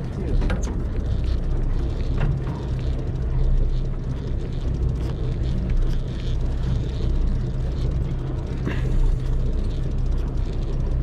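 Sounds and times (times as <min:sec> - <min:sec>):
constant low drone: 0:00.0 - 0:11.0
fishing reel gears clicking: 0:00.1 - 0:11.0.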